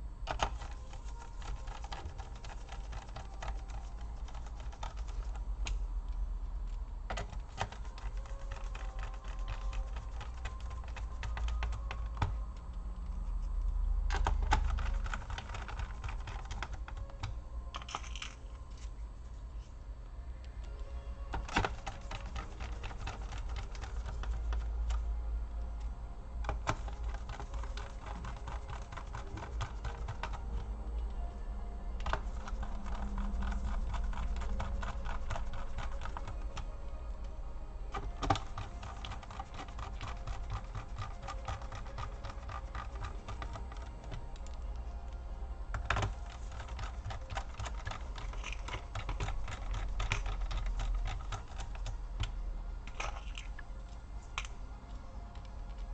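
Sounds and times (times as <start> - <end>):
laptop parts clicking and tapping: 0.2 - 12.8, 14.0 - 18.9, 21.3 - 31.3, 32.0 - 53.7.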